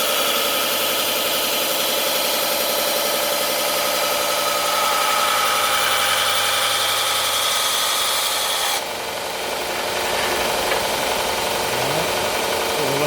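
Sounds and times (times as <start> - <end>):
belt sander motor hum: 0.0 - 13.0.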